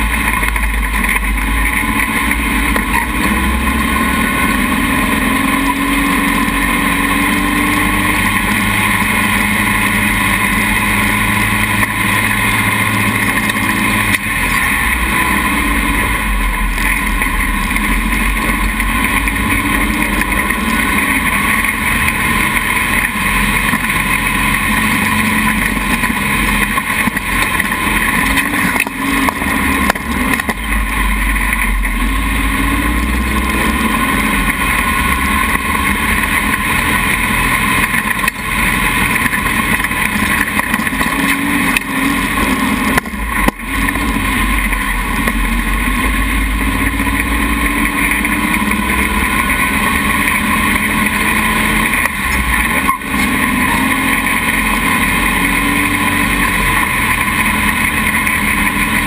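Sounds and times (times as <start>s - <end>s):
dune buggy engine revving: 0.0s - 59.0s.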